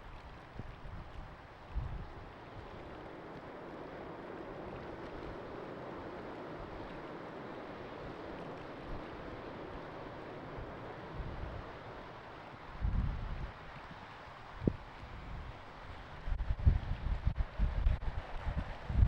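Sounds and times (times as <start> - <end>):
wind buffeting microphone: 0.0 - 19.0
jet airliner engines roaring: 2.0 - 19.0.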